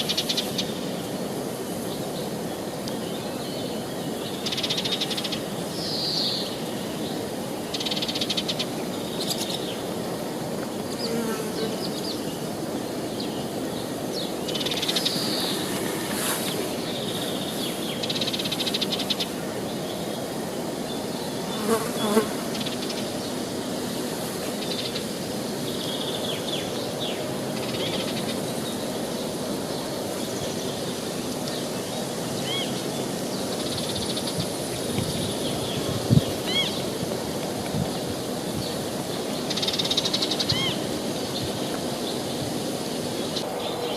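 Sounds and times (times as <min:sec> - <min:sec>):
insect buzzing: 0:04.3 - 0:19.7, 0:20.3 - 0:43.9.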